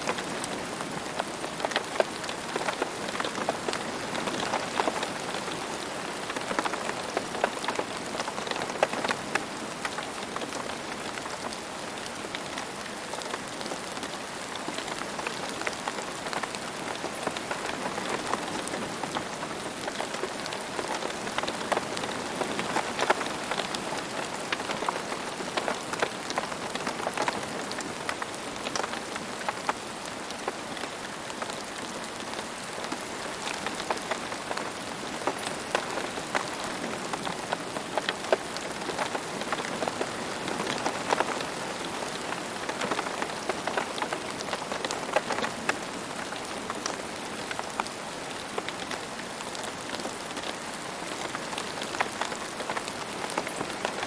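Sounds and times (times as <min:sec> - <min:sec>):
steady rain on hard surface: 0:00.0 - 0:54.0.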